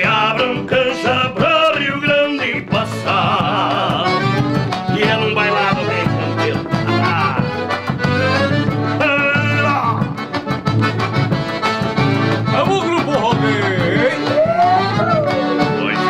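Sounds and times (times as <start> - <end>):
accordion melody: 0.0 - 16.0
bass: 0.0 - 16.0
driving dance beat: 0.0 - 16.0.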